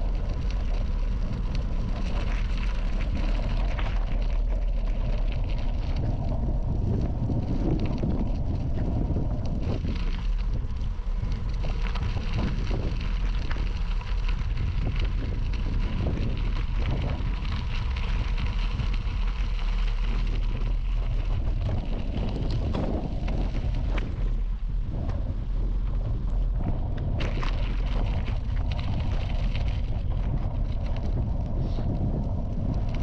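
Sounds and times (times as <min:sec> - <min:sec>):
bicycle tyres on gravel: 0:00.0 - 0:33.0
wind buffeting microphone: 0:00.0 - 0:33.0.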